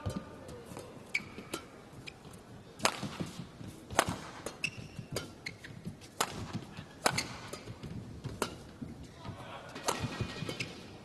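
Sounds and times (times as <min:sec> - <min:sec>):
rackets hitting shuttlecock: 0:00.0 - 0:11.0.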